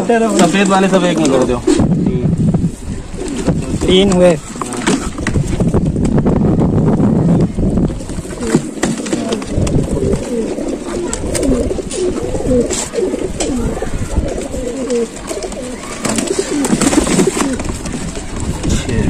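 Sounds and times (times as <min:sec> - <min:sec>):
pigeons cooing: 0:00.0 - 0:02.1, 0:02.7 - 0:05.6, 0:07.3 - 0:19.0.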